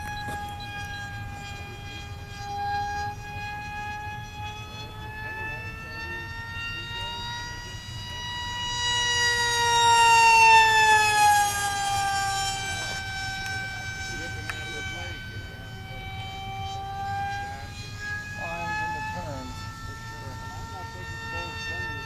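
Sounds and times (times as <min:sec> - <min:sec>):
electric model jet motor whine: 0:00.0 - 0:22.0.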